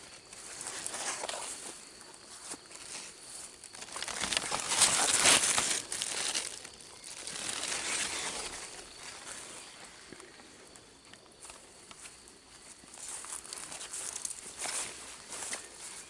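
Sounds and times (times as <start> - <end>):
leaves and straw rustling: 0.0 - 16.0.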